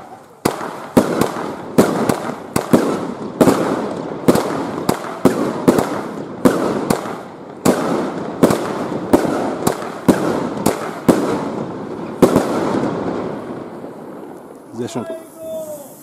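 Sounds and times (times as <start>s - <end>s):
firework bangs with crackling hiss: 0.0s - 16.0s.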